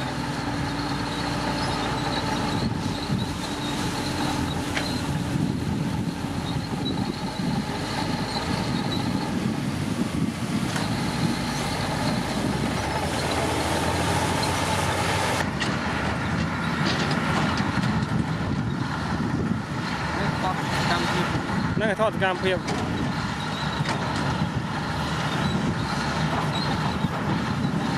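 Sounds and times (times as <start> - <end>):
bulldozer diesel engine running: 0.0 - 27.9.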